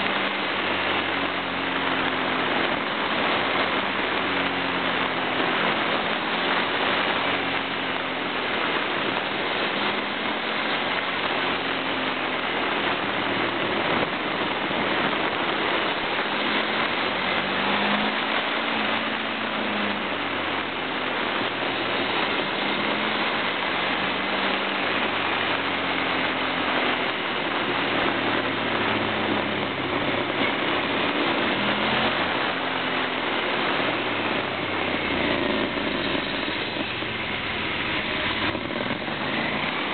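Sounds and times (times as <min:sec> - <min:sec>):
motorbike engine revving: 0:00.0 - 0:39.9
wind rushing over microphone: 0:00.0 - 0:39.9.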